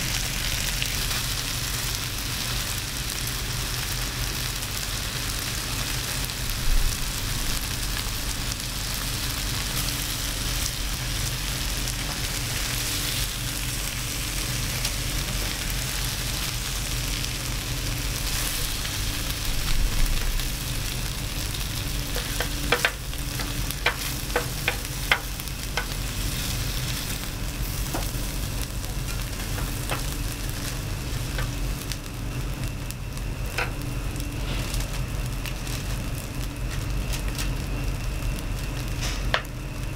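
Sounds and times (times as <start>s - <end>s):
meat sizzling on a grill: 0.0s - 39.9s
steady low hum: 0.0s - 39.9s.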